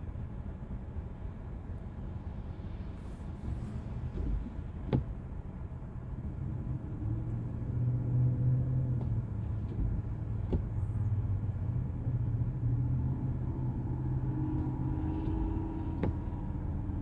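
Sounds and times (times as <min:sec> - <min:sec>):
vehicle engine low hum: 0:00.0 - 0:17.0.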